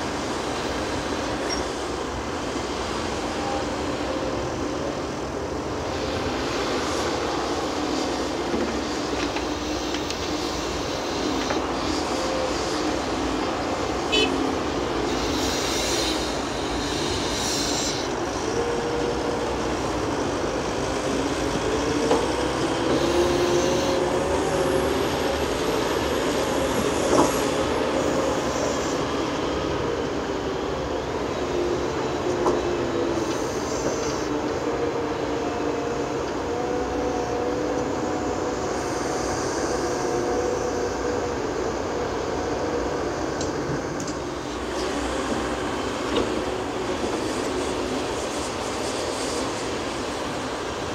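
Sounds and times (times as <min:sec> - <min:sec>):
tractor diesel engine with whine: 0:00.0 - 0:50.9.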